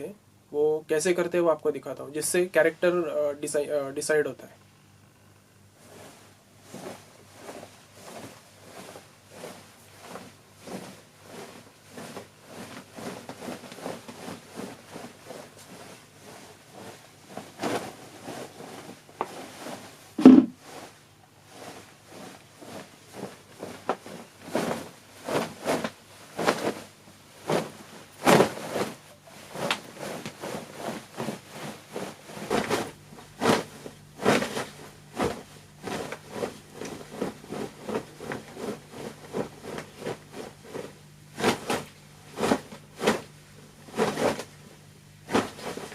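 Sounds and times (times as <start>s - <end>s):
fabric swishing and rubbing: 5.7s - 45.9s.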